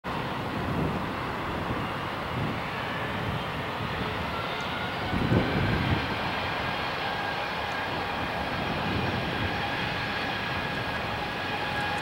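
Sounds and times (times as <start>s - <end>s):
jet engines running: 0.1s - 12.0s.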